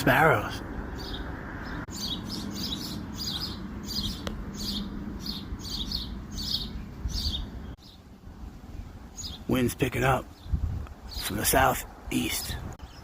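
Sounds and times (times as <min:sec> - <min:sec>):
low wind rumble: 0:00.0 - 0:13.0
songbird chirping: 0:00.0 - 0:13.0.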